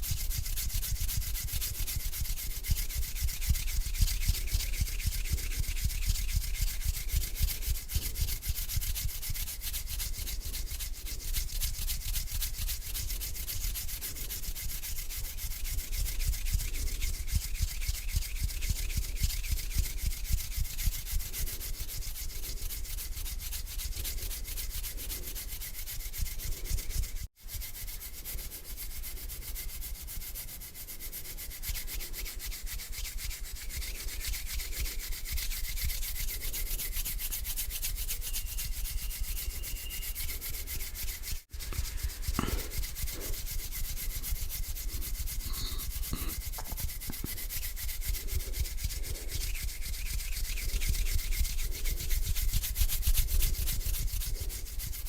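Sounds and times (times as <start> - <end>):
hands rubbing together: 0.0 - 55.0.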